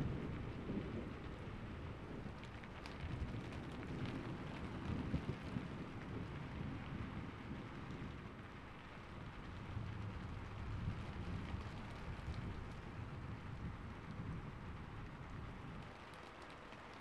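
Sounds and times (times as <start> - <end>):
rolling thunder rumble: 0.0 - 16.0
steady rain: 0.0 - 17.0.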